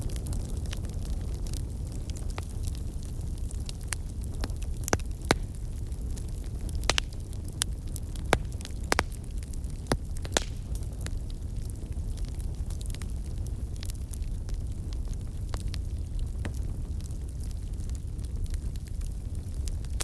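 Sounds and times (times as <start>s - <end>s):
fire crackling and popping: 0.0s - 20.0s
fire low rumble: 0.0s - 20.0s.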